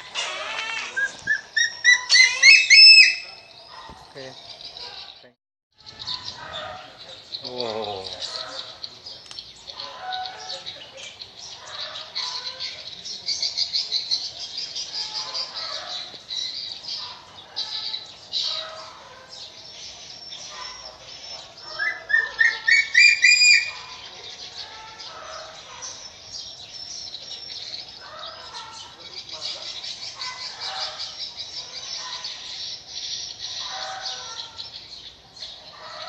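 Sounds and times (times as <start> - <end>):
birds twittering: 0.0 - 36.0.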